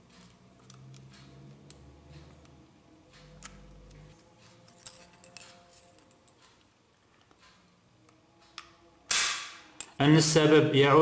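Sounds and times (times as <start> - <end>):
faint music: 0.0 - 11.0.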